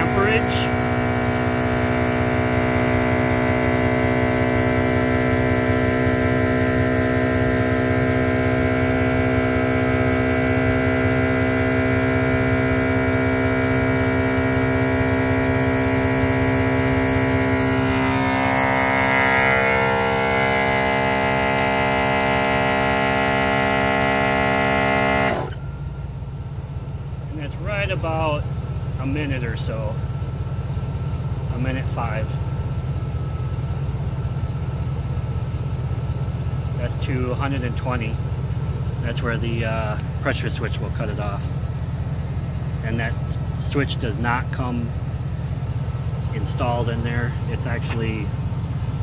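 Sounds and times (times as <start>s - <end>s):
air compressor running: 0.0s - 39.4s
vehicle engine idling: 0.0s - 49.0s.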